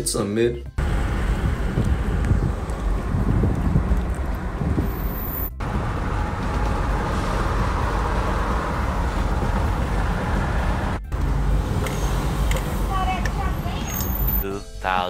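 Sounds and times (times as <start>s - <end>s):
car road noise rumble: 0.7s - 14.5s
wind and tyre hiss: 0.8s - 15.0s.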